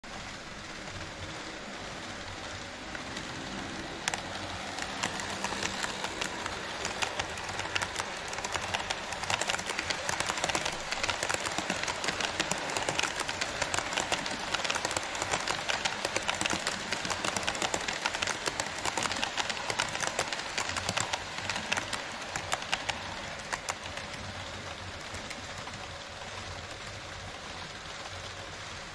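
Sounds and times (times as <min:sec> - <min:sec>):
model train running rush: 0:00.0 - 0:28.9
model train wheels clicking: 0:00.0 - 0:28.9.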